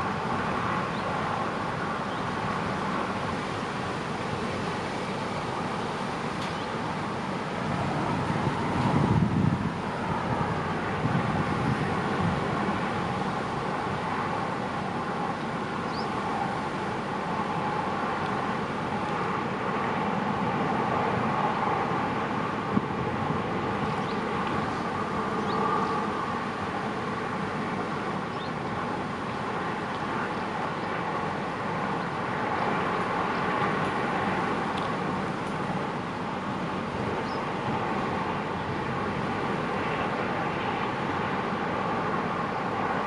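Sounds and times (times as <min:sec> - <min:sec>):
boat engine droning: 0:00.0 - 0:43.0.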